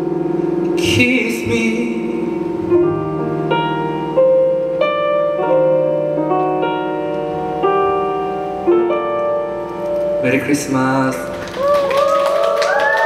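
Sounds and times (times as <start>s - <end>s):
keyboard playing piano chords: 0.0s - 13.0s.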